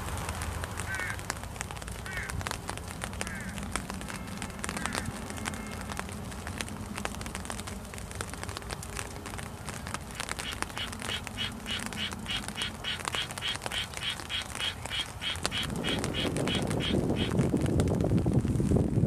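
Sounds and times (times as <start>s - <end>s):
light raindrop ticks: 0.0s - 19.0s.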